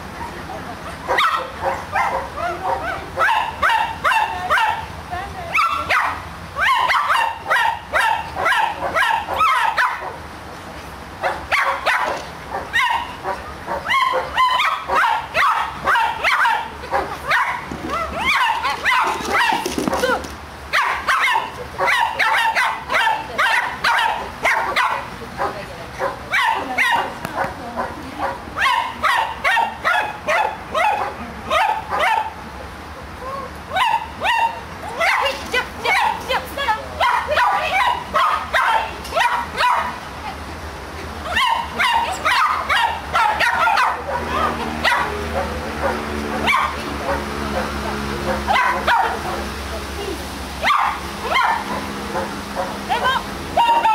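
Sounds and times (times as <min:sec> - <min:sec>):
dog yipping: 0:01.0 - 0:04.8, 0:05.5 - 0:10.2, 0:11.2 - 0:27.1, 0:27.8 - 0:32.3, 0:33.7 - 0:36.4, 0:37.0 - 0:40.0, 0:41.2 - 0:47.7, 0:48.3 - 0:49.4, 0:50.6 - 0:53.9.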